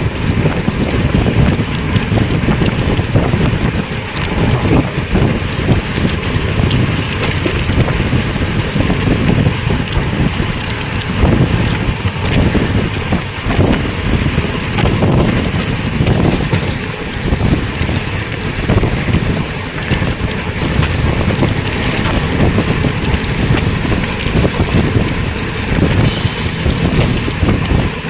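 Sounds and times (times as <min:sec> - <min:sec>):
moving train rumble: 0:00.0 - 0:28.0
wind buffeting microphone: 0:00.0 - 0:28.0.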